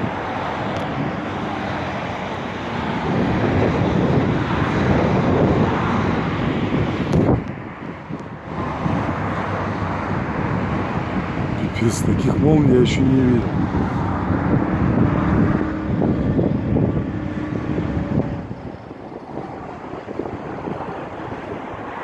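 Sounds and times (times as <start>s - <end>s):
road traffic: 0.0s - 22.0s
wind rushing: 2.7s - 22.0s.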